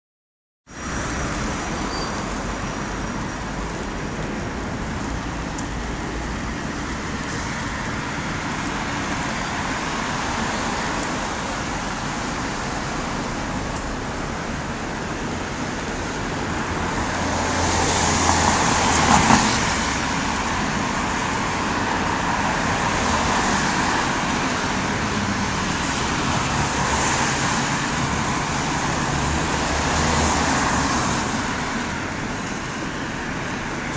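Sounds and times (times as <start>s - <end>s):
traffic on wet road: 0.7s - 33.9s.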